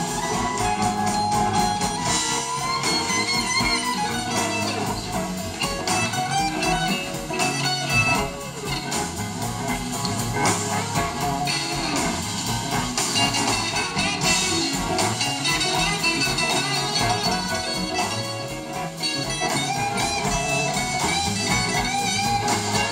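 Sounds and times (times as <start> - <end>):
bass guitar: 0.0 - 22.9
drums: 0.0 - 22.9
electric guitars: 0.0 - 22.9.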